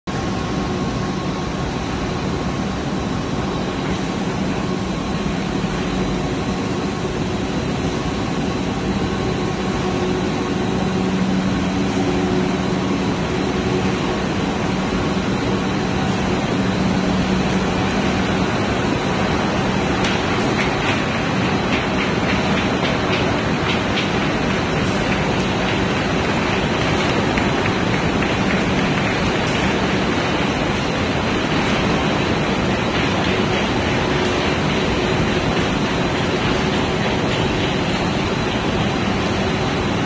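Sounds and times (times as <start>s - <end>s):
constant low hum: 0.1s - 40.0s
factory machinery droning: 0.1s - 40.0s.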